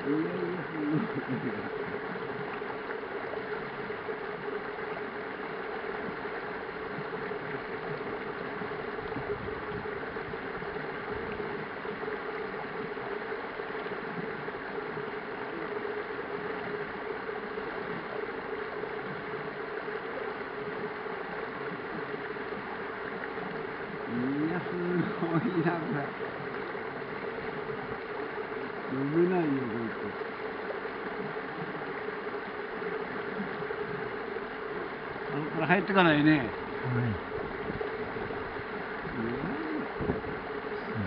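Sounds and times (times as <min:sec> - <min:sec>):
flowing stream water: 0:00.0 - 0:41.0
steady hum: 0:00.0 - 0:41.0.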